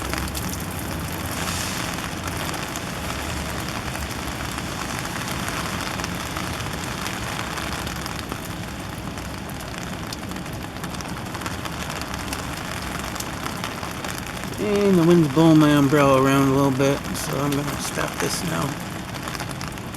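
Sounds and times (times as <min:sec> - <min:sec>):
rain on umbrella: 0:00.0 - 0:19.9.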